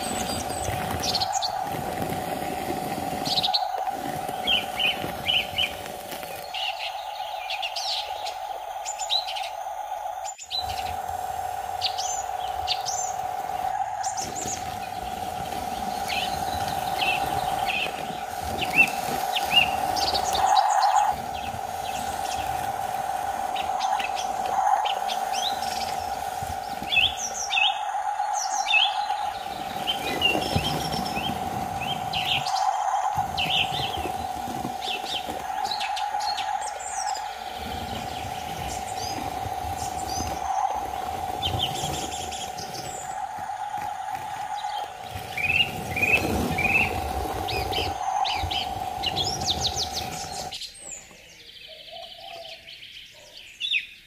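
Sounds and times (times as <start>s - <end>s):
steady mid-pitched whine: 0.0s - 50.6s
small birds chirping: 0.0s - 54.0s.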